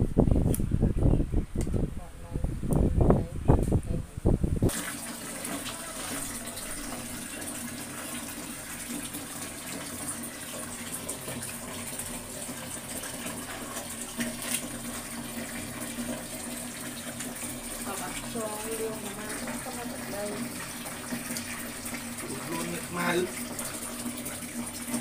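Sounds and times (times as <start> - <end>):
water splashing in a basin: 4.7 - 25.0.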